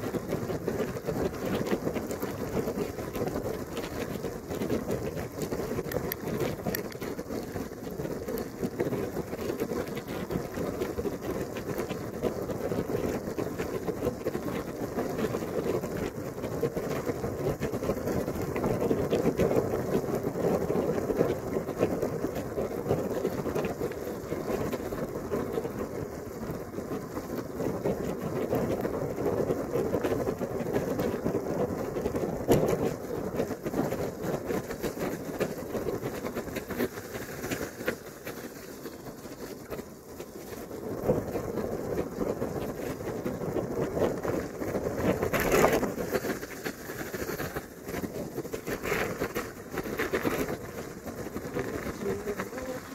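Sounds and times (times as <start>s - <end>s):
raindrops ticking on camera: 0.0s - 52.9s
wind and rain rushing: 0.0s - 52.9s.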